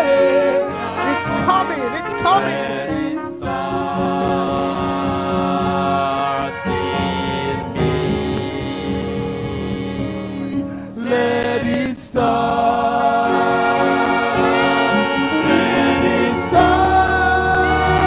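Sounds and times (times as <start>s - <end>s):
horn section chords: 0.0s - 10.9s, 13.0s - 18.0s
gospel choir singing: 0.0s - 18.0s.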